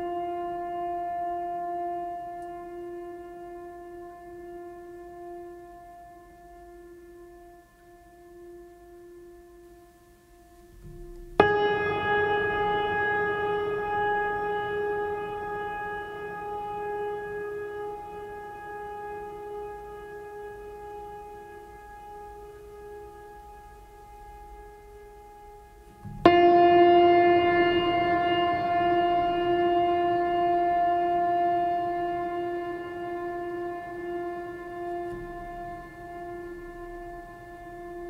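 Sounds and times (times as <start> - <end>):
ambient drone music: 0.0 - 38.0.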